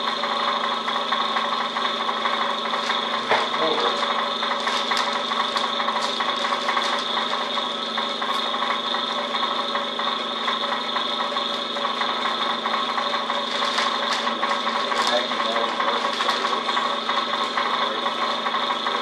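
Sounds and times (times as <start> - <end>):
vacuum pump humming and whining: 0.0 - 19.0.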